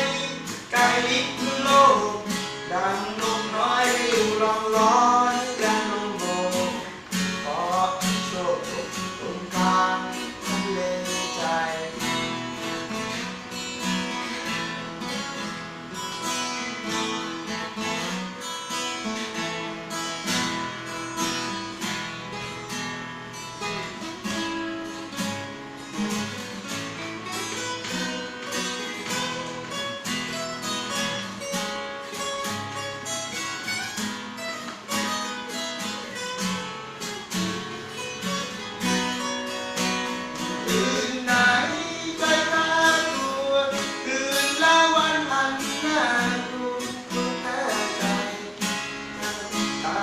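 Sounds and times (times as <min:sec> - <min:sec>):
acoustic guitar strummed and picked: 0:00.0 - 0:50.0.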